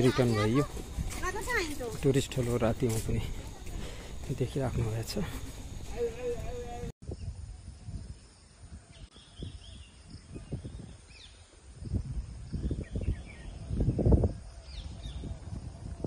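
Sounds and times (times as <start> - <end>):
wind gusting against microphone: 0.0 - 16.0.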